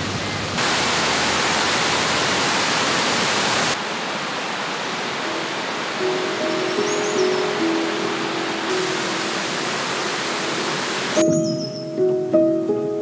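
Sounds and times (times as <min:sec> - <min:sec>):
water rushing over weir: 0:00.0 - 0:11.3.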